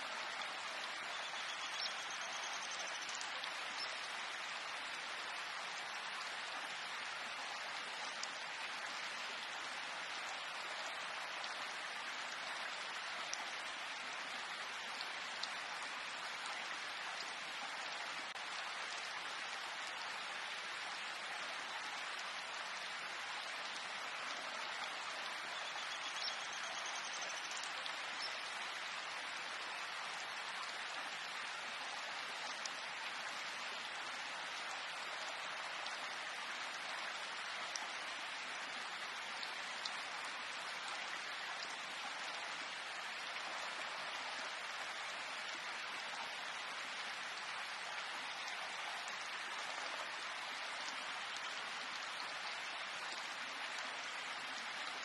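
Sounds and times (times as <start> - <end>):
faint ticks of raindrops: 0.0 - 55.0
steady rain hiss: 0.0 - 55.0.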